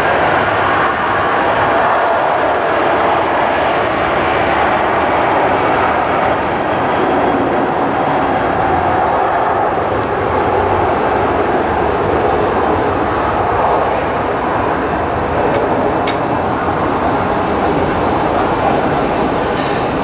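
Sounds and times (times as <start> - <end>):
jet engines rushing: 0.0 - 20.0.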